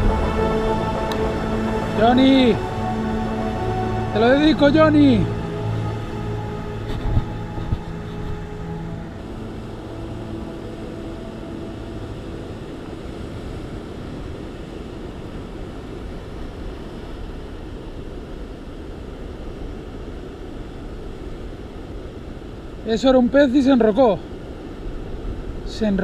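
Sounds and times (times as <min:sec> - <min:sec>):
sea surf on rocky shore: 0:00.0 - 0:26.0
wind: 0:00.0 - 0:26.0.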